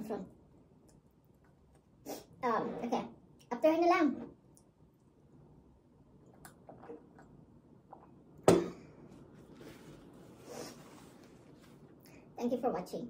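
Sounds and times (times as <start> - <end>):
soft noisy sound: 0.0 - 13.0.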